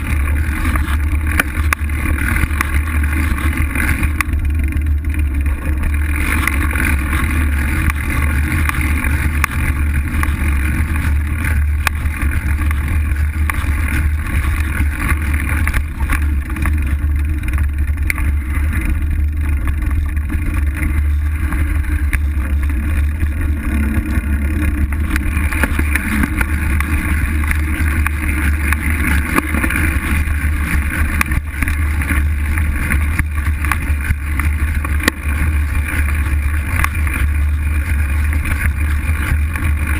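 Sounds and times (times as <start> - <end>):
bike tyres rolling on dirt: 0.0 - 39.9.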